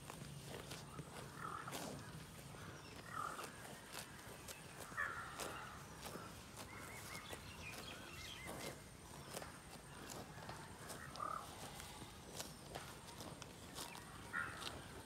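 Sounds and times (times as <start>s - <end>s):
cow tearing grass: 0.0s - 15.0s
birds calling: 0.4s - 15.0s.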